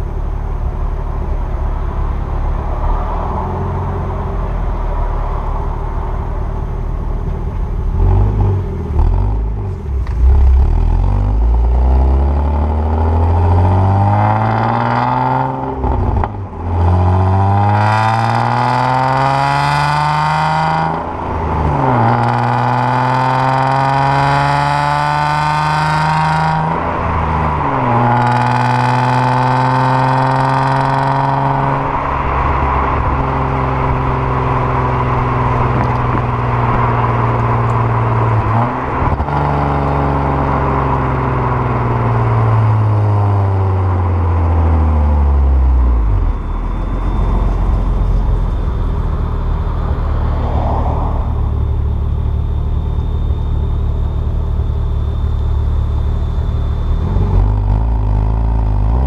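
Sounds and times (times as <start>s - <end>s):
car engine with raspy exhaust: 0.0s - 59.0s.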